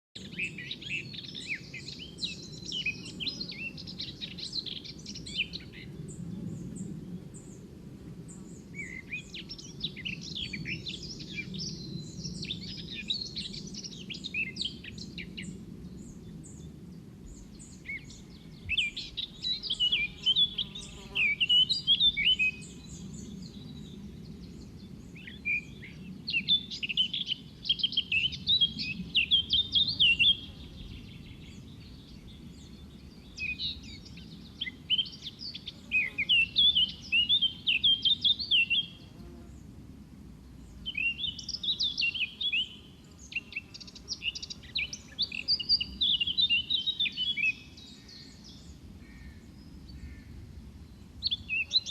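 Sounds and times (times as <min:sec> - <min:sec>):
birds singing and chirping: 0:00.2 - 0:07.6, 0:08.3 - 0:39.2, 0:40.6 - 0:50.3, 0:50.9 - 0:51.9.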